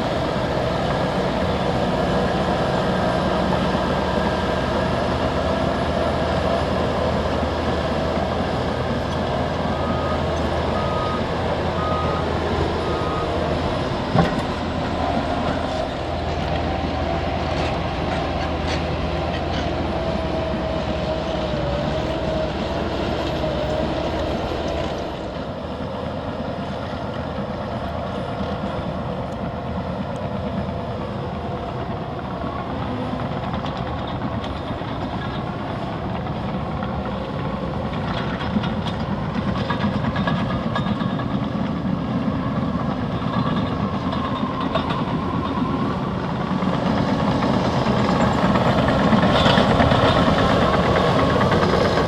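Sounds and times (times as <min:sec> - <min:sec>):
diesel engines under load: 0:00.0 - 0:52.0
steel tracks clanking and rattling: 0:00.0 - 0:52.0.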